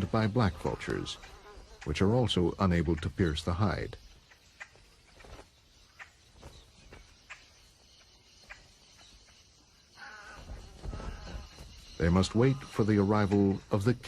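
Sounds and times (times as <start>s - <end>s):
outdoor ambience: 0.0s - 14.0s.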